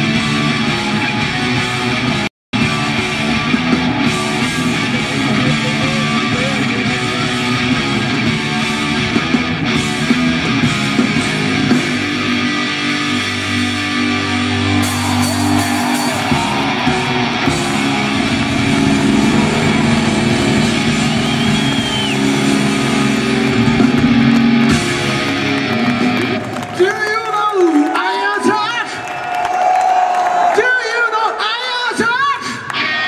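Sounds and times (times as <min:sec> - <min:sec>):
drum kit: 0:00.0 - 0:26.6
bass guitar: 0:00.0 - 0:26.7
distorted electric guitars: 0:00.0 - 0:26.8, 0:32.7 - 0:33.0.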